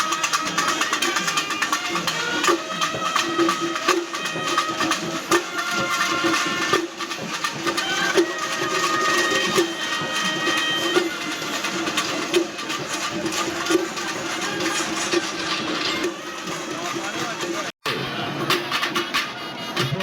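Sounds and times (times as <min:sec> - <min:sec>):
drum ensemble fast rhythm: 0:00.0 - 0:20.0
wind instruments holding notes: 0:00.0 - 0:20.0.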